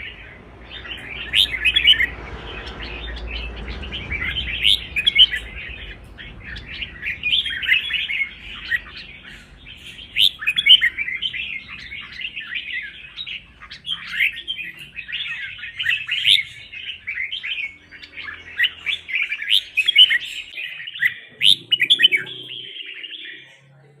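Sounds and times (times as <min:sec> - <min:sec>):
bulbul singing: 0:00.0 - 0:23.7.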